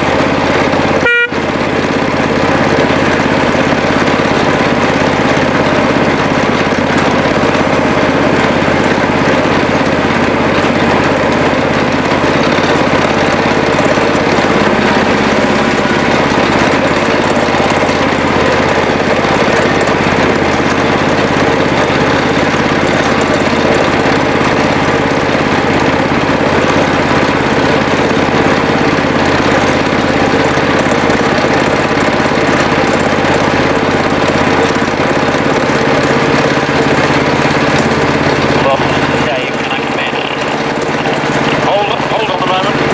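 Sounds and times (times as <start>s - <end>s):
small locomotive engine running: 0.0s - 42.9s.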